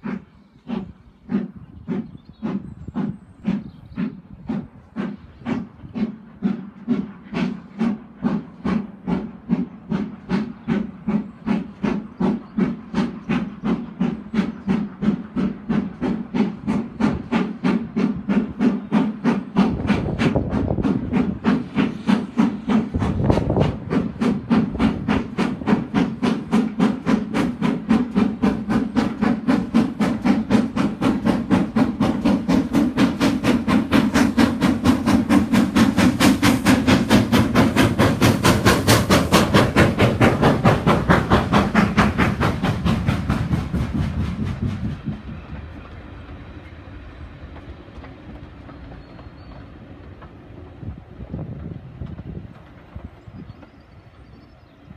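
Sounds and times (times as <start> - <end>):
steam locomotive exhaust beats: 0.0 - 54.9.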